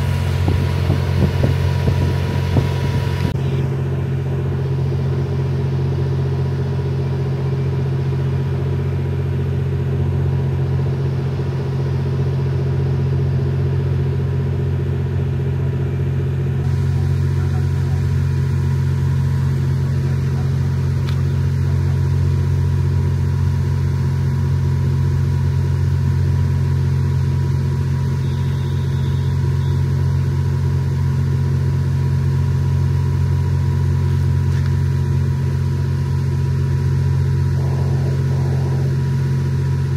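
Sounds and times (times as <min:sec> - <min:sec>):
diesel train engines idling: 0:00.0 - 0:39.9.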